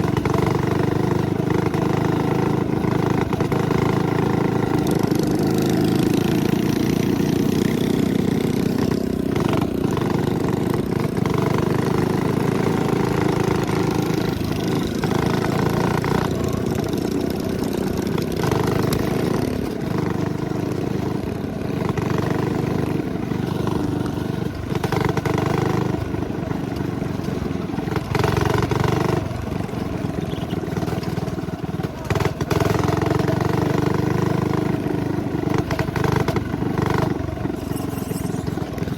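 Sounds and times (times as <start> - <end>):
minibike engines running: 0.0 - 38.9.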